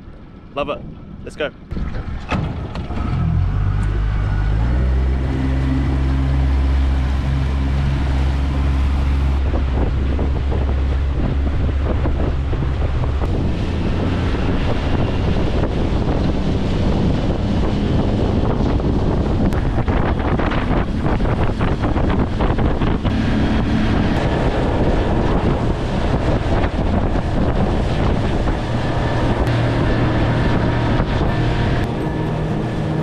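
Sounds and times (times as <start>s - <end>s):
wind buffeting microphone: 0.0s - 33.0s
rough rushing noise: 1.3s - 33.0s
outboard motor running: 1.7s - 33.0s.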